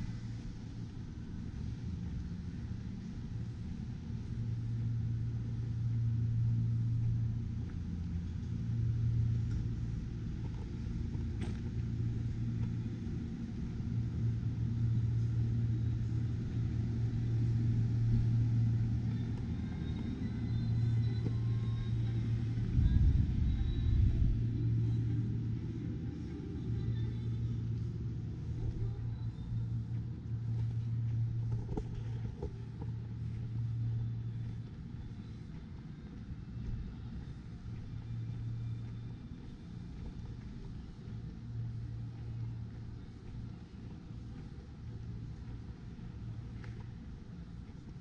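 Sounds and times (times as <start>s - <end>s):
low engine rumble: 0.0s - 48.0s.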